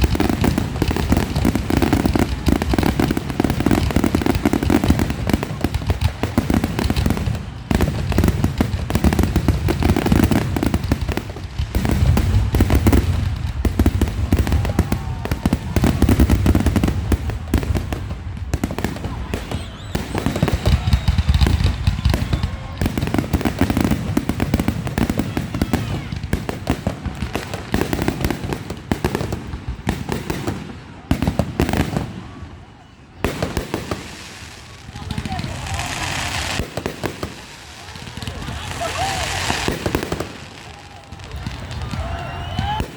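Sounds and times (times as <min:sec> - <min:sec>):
fireworks crackling pops: 0:00.0 - 0:32.4, 0:33.2 - 0:42.9
low rumble of firework bursts: 0:00.0 - 0:42.9.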